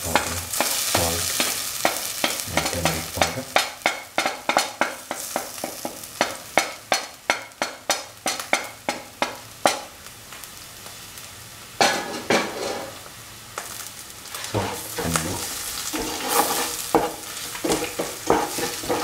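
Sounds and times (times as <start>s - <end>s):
food sizzling in oil: 0.0s - 19.0s
frying or scraping rush: 0.0s - 19.0s.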